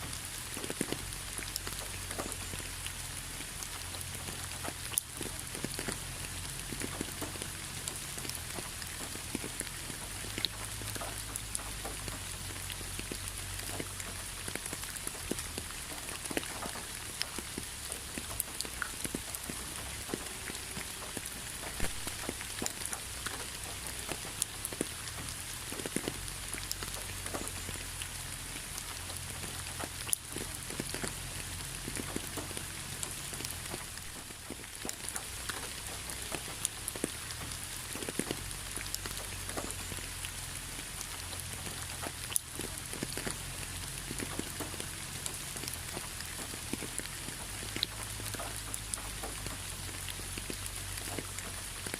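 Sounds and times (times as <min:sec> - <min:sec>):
rain pattering on a surface: 0:00.0 - 0:51.9.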